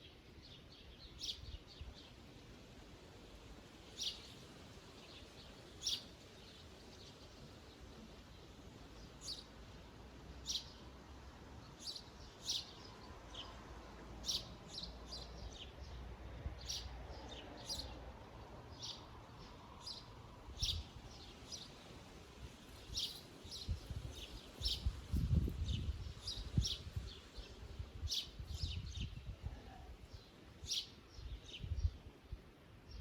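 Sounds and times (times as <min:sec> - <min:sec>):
songbirds chirping: 0:00.0 - 0:33.0.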